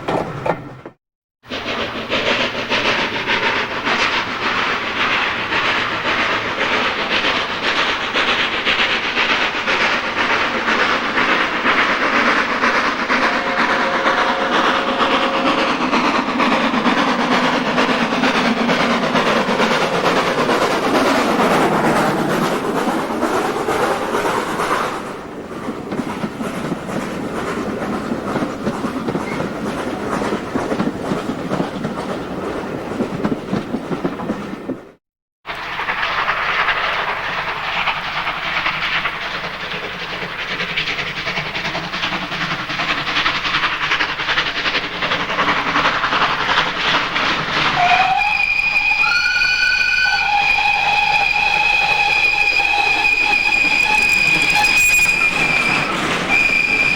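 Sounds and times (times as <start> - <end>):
train wheels rattling on rails: 0.0 - 56.9.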